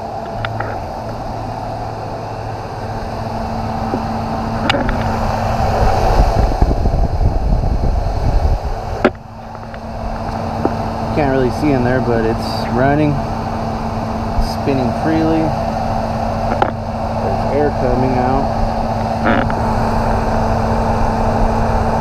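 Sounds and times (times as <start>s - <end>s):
car engine idling: 0.0s - 22.0s
engine fan air rushing: 0.0s - 22.0s.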